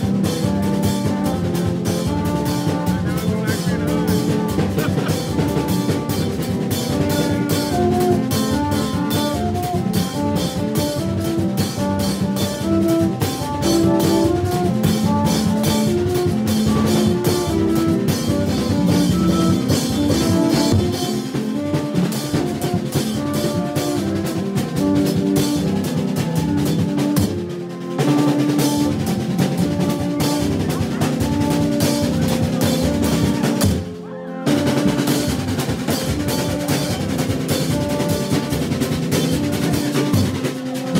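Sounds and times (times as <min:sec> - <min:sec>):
drum band playing fast rhythm: 0:00.0 - 0:40.9.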